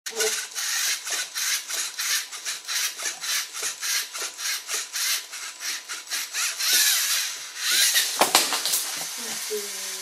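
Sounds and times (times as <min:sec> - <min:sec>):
robot servo motors whirring: 0:00.1 - 0:10.0.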